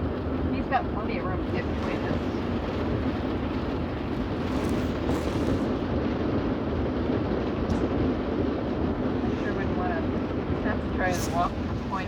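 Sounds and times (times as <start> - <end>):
heavy rain on car roof: 0.0 - 12.0.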